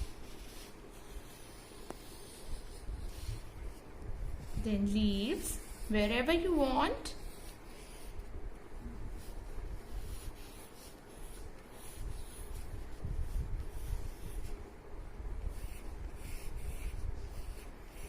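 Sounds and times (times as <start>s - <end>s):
drawing tool scratching on paper: 0.0s - 18.0s.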